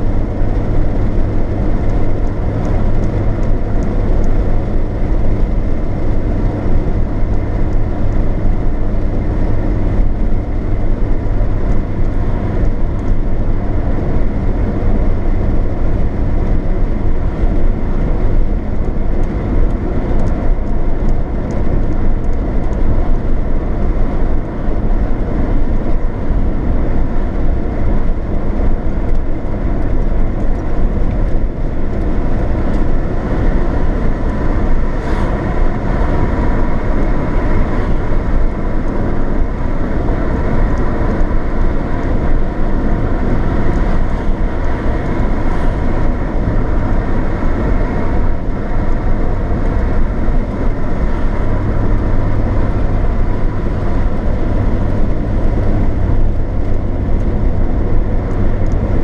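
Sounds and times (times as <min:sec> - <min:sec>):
car cabin road noise: 0:00.0 - 0:59.0
low hum: 0:00.0 - 0:59.0.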